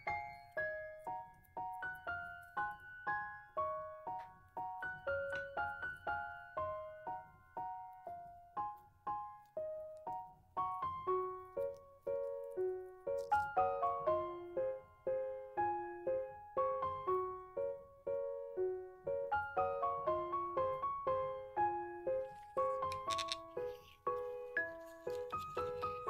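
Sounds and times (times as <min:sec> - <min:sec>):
slow gentle solo piano: 0:00.0 - 0:26.0.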